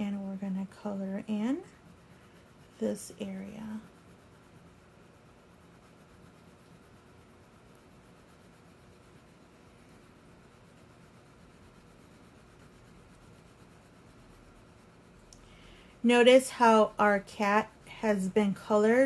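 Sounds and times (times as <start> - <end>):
crayon scratching on paper: 0.0 - 15.3, 15.9 - 19.0.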